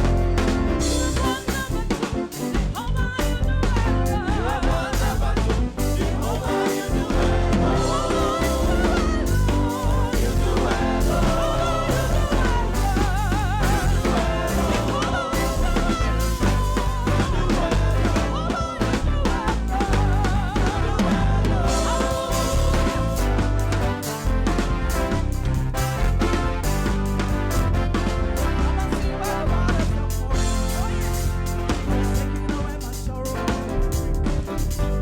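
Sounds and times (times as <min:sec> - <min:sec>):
bass line: 0:00.0 - 0:35.0
drum kit: 0:00.0 - 0:35.0.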